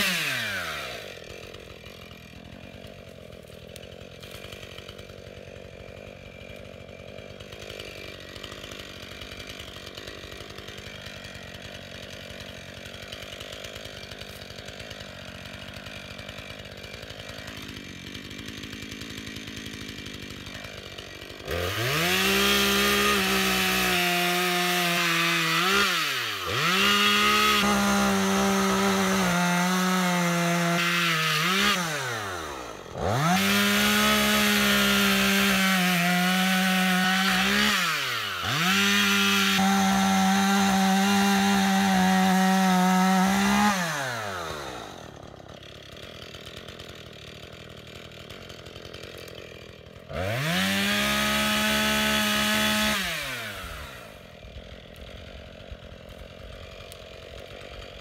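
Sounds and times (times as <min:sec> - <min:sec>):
chainsaw cutting through log: 0:00.0 - 0:58.0
chainsaw idling: 0:00.0 - 0:58.0.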